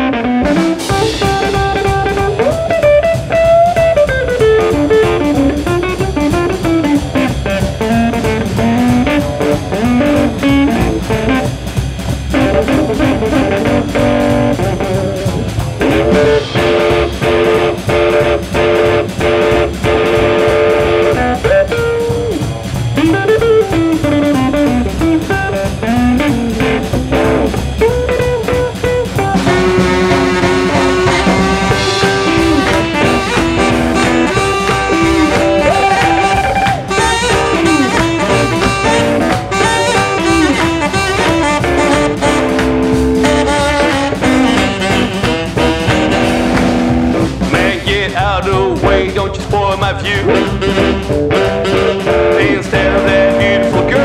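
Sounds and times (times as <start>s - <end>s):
electric guitar lead: 0.0s - 48.0s, 48.7s - 54.0s
drum kit beat: 0.0s - 54.0s.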